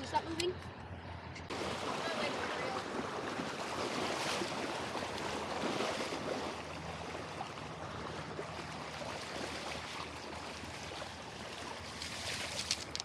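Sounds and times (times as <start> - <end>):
creek water over gravel: 1.5 - 13.0
fish thrashing and splashing: 1.5 - 13.0.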